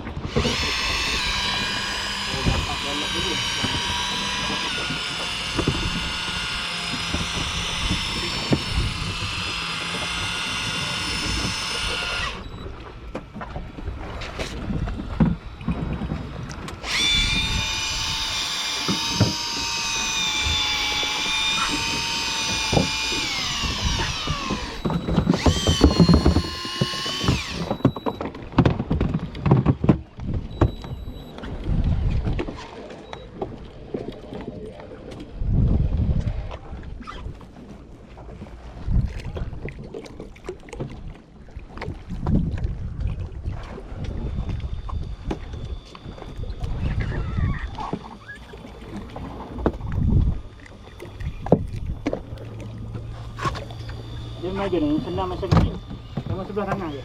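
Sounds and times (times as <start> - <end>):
fishing reel motor whining: 0.0 - 32.4, 43.5 - 57.0.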